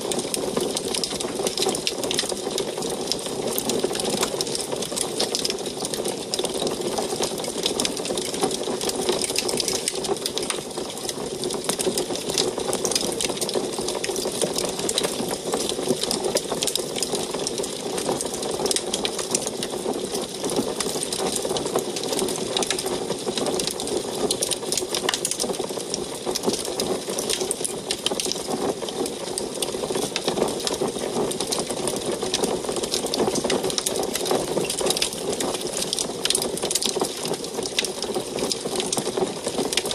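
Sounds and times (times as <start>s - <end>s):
wood fire crackling in stove: 0.0s - 39.9s.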